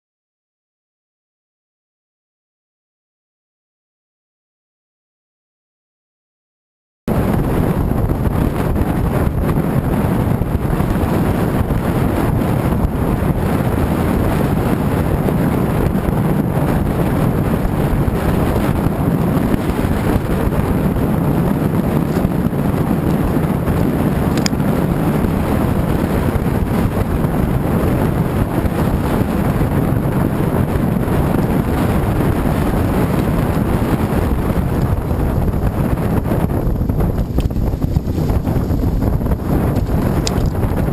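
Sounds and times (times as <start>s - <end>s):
outboard engine roaring: 7.1s - 40.9s
wind buffeting microphone: 7.1s - 40.9s.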